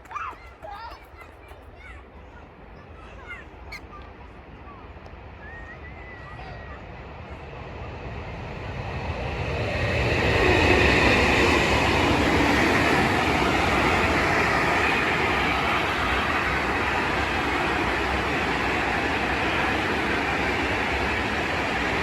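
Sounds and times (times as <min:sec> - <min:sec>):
freight train rumbling past: 0:04.4 - 0:22.0.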